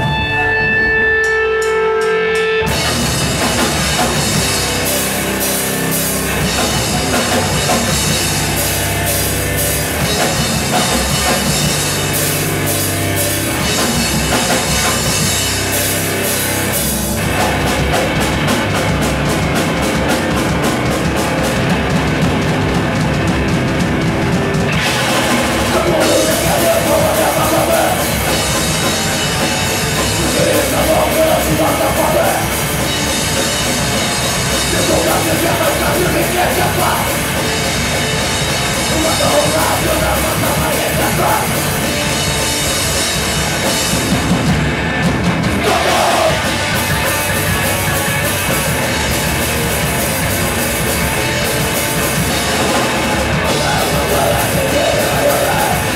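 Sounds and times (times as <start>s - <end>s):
live rock band playing: 0.0s - 55.9s.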